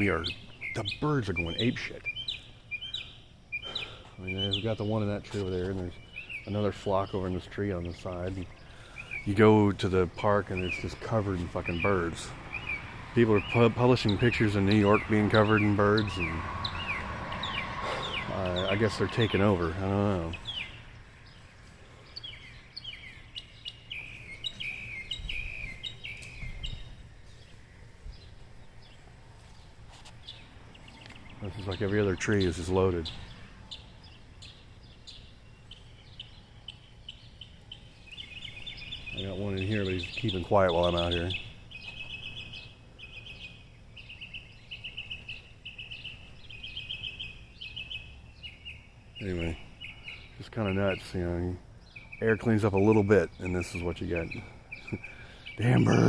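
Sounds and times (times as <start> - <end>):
flock of birds calling: 0.0 - 27.6, 30.2 - 56.0.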